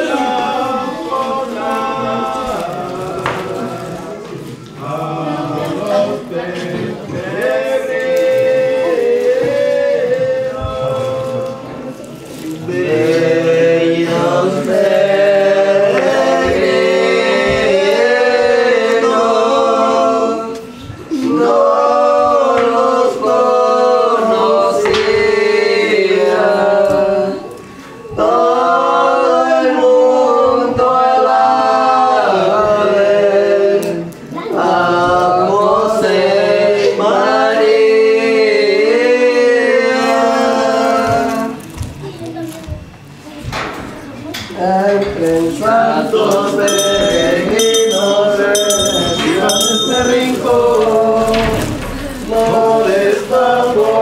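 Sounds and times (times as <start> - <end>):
group of voices singing: 0.0 - 42.1, 42.8 - 54.0.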